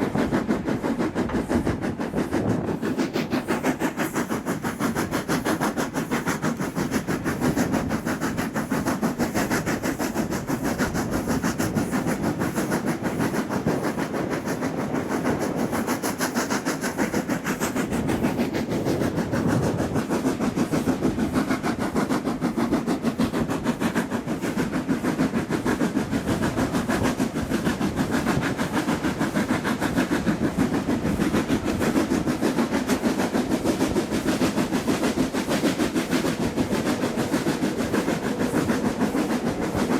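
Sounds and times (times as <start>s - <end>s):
steam train running: 0.0s - 39.9s.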